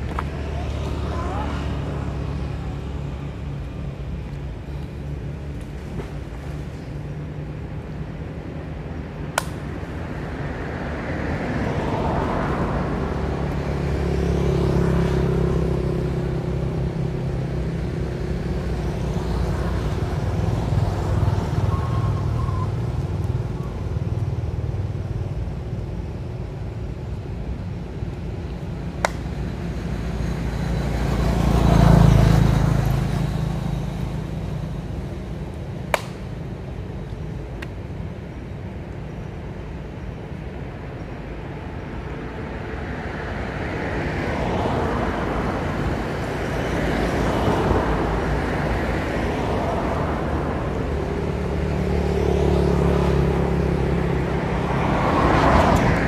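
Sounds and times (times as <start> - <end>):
vehicle engine hum: 0.0 - 56.0.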